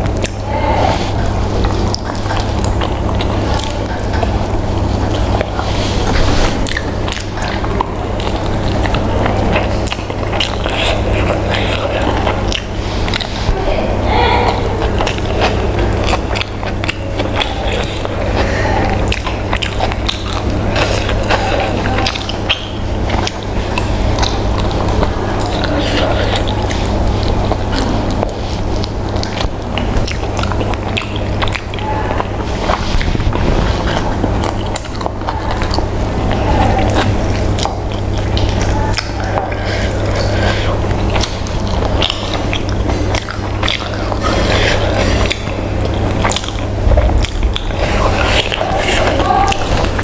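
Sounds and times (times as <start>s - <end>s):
person chewing food: 0.0s - 50.0s
steady low hum: 0.0s - 50.0s.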